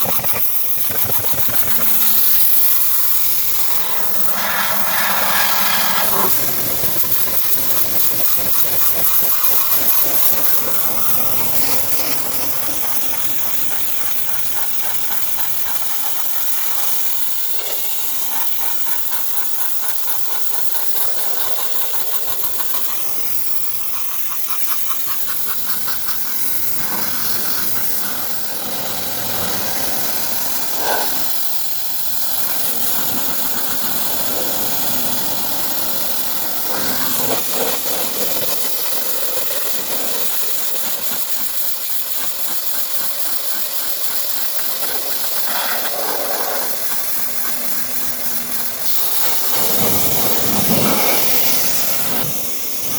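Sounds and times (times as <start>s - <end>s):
motor running: 0.0s - 52.9s
pressurised spray hiss: 0.0s - 52.9s.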